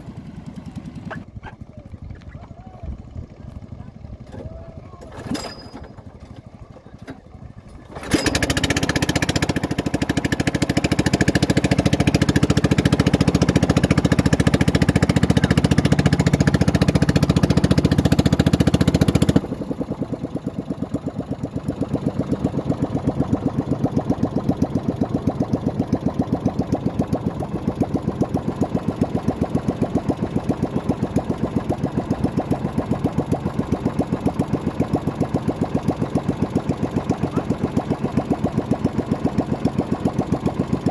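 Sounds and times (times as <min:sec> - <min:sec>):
outboard motor running: 0:00.0 - 0:40.9.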